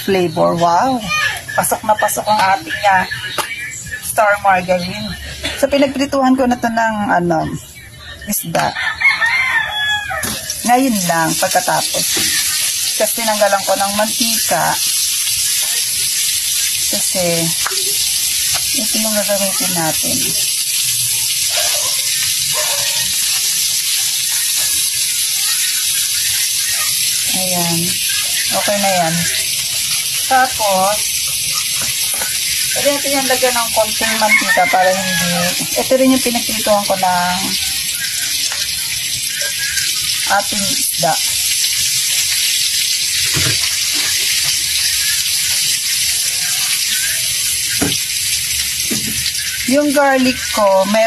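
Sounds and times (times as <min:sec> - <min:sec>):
margarine sizzling in a wok: 0:00.0 - 0:51.0.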